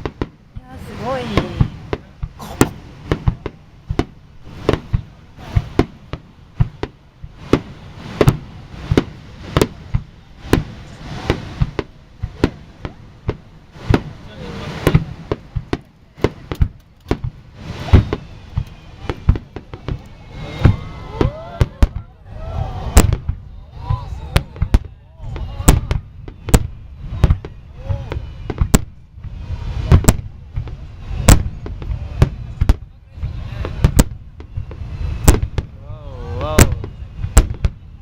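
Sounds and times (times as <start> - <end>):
fireworks bursting with sharp bangs: 0.0 - 38.0.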